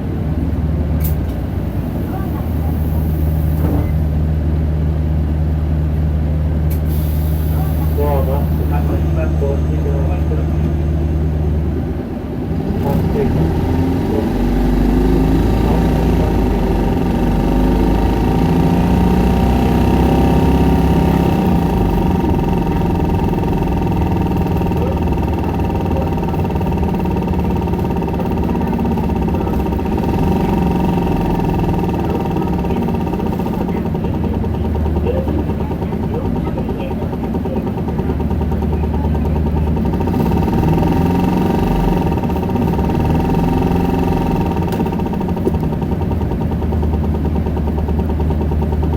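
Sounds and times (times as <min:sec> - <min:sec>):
bus diesel engine accelerating: 0:00.0 - 0:48.9.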